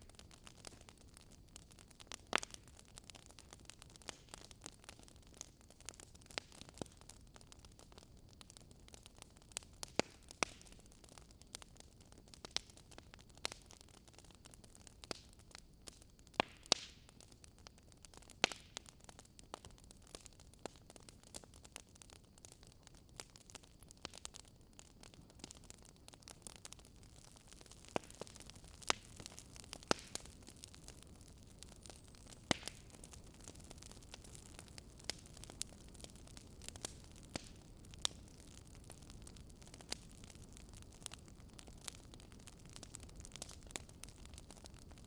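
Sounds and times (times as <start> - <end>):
low steady hiss: 0.0 - 45.0
wood fire crackling: 0.0 - 45.0.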